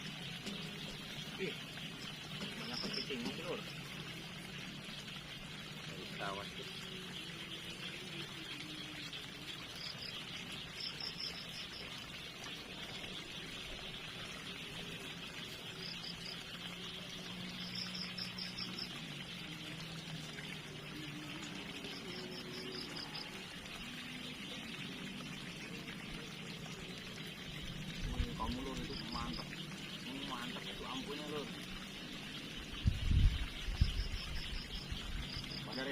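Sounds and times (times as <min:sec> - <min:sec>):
water trickling: 0:00.0 - 0:35.9.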